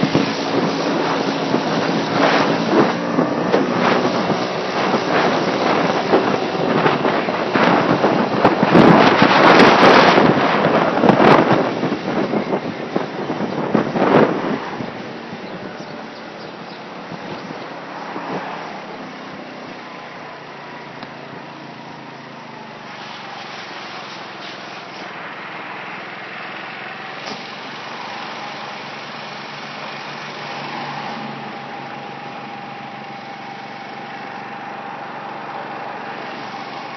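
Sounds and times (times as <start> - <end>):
moped engine running: 0.0 - 18.0, 18.8 - 36.9.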